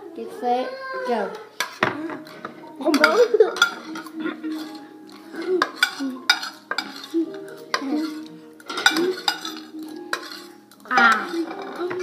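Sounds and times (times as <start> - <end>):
spoons clinking on plates: 1.6 - 12.0.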